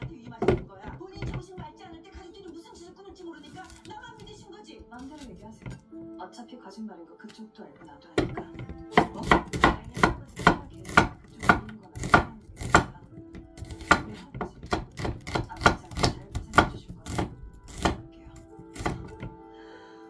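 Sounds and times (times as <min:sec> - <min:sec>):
knife chopping on wooden board: 0:00.0 - 0:06.0, 0:08.2 - 0:19.4.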